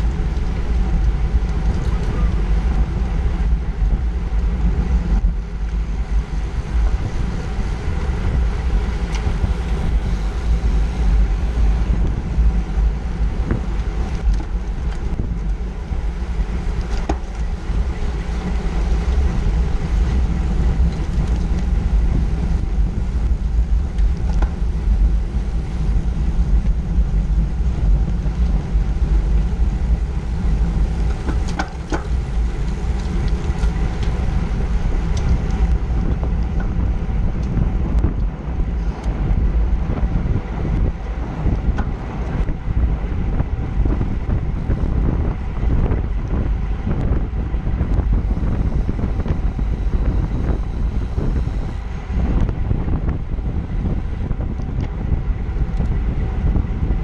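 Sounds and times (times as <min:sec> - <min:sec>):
bicycle tyres hissing on asphalt: 0:00.0 - 0:57.0
wind buffeting microphone: 0:00.0 - 0:57.0.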